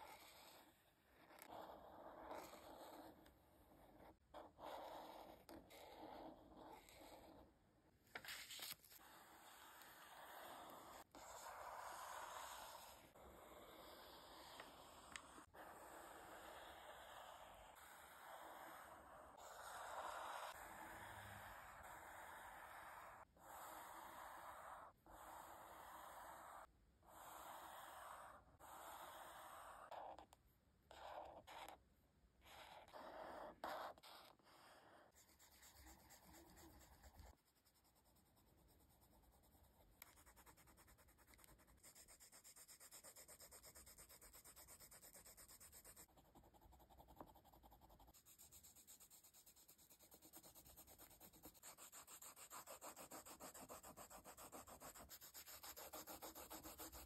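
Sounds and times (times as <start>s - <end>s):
pen strokes on paper: 0.0s - 7.5s, 8.1s - 30.3s, 32.4s - 57.0s
rapid pen scribbling: 0.0s - 7.5s, 8.3s - 30.3s, 32.4s - 57.0s.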